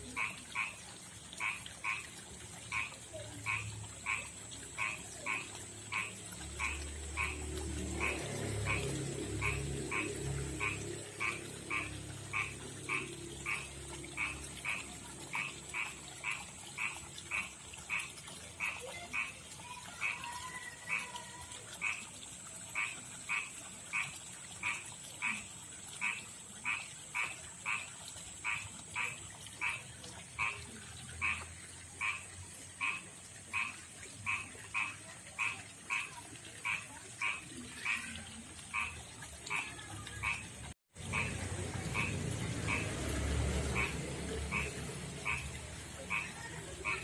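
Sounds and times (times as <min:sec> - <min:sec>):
frog croaking: 0:00.0 - 0:47.0.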